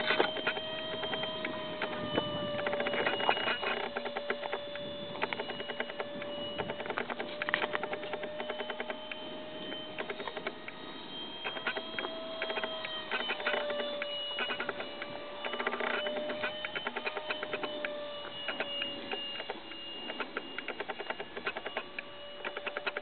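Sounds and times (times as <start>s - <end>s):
irregular clicks and crackles: 0.0s - 23.0s
model jet fan whining: 0.0s - 23.0s.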